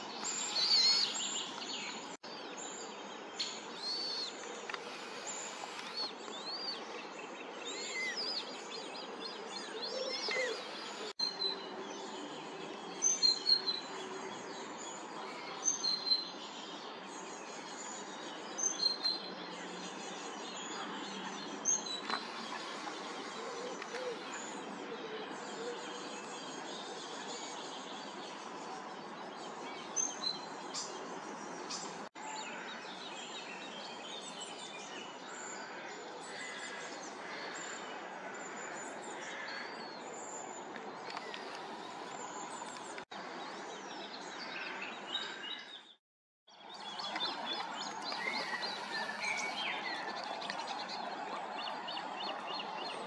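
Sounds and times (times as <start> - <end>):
birds chirping and singing: 0.1 - 53.0.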